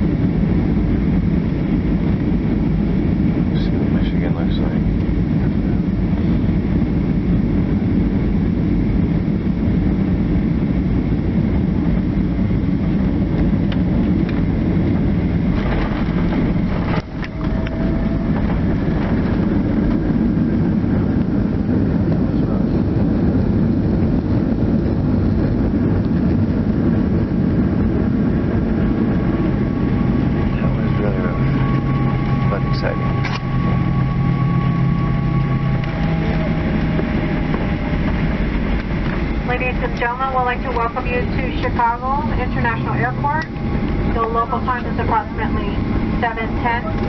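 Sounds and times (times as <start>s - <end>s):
jet cabin engine and air noise: 0.0s - 47.0s.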